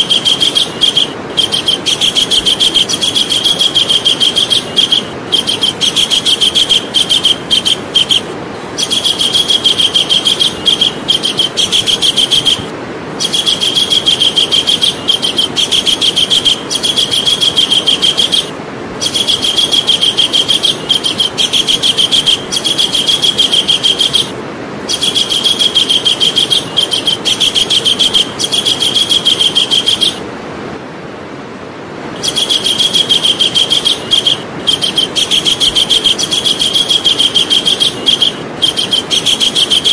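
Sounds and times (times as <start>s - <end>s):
kingfisher calling rapid high notes: 0.0s - 30.2s, 32.2s - 39.9s
steady background hiss: 0.0s - 39.9s.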